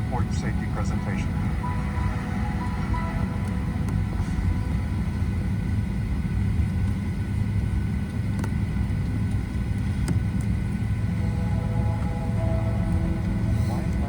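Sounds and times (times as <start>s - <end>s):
airplane cabin rumble and hum: 0.0s - 14.0s.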